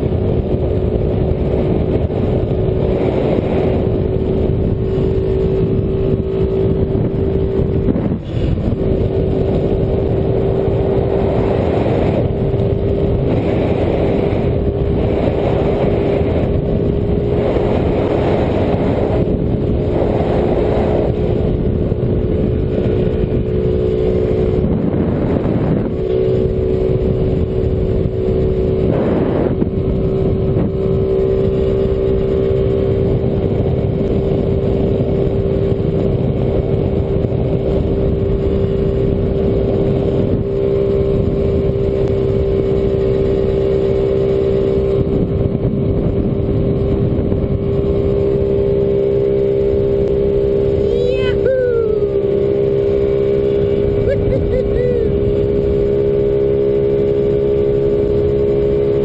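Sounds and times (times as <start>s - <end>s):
scooter engine running: 0.0s - 59.0s
wind rushing over microphone: 0.0s - 59.0s.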